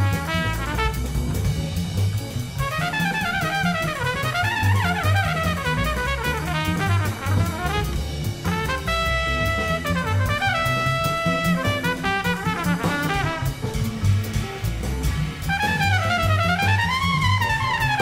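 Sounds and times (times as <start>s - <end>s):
brass-led jazz band: 0.0s - 18.0s
drum kit: 0.0s - 18.0s.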